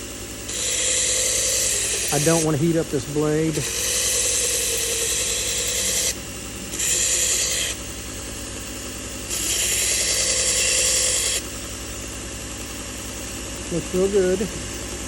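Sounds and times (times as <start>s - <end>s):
belt grinder motor hum: 0.0s - 15.0s.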